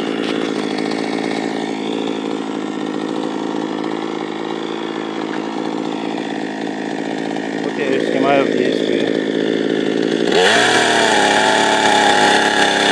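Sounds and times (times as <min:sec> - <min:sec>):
chainsaw running: 0:00.0 - 0:12.9.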